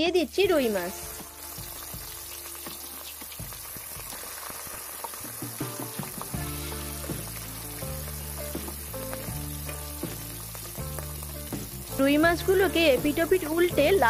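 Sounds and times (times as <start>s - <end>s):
fish sizzling in hot oil: 0.2s - 14.0s
oil crackling and popping: 0.3s - 14.0s.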